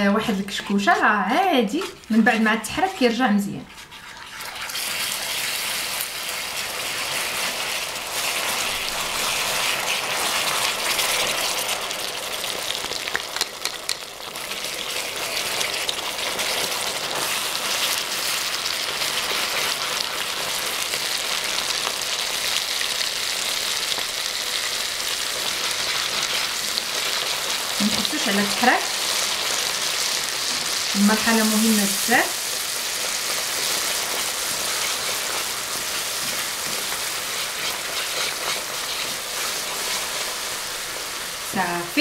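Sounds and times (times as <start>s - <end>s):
caramel sizzling and bubbling: 0.0s - 42.0s.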